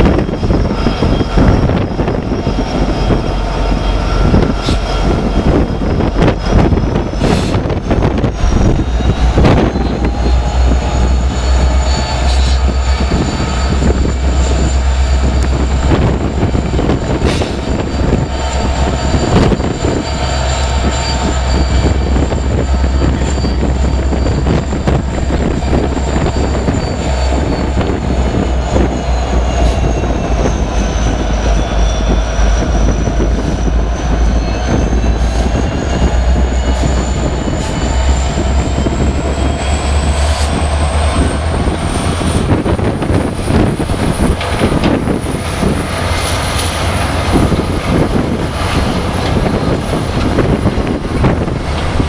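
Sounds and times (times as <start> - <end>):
high-pitched whine: 0.0 - 52.0
locomotive engine rumble: 0.0 - 52.0.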